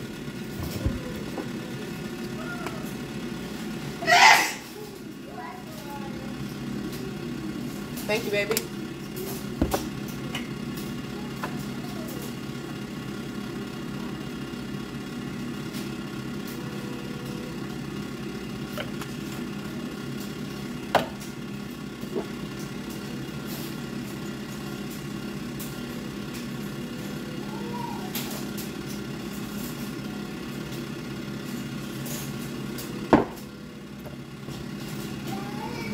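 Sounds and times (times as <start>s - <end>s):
appliance humming: 0.0s - 35.9s.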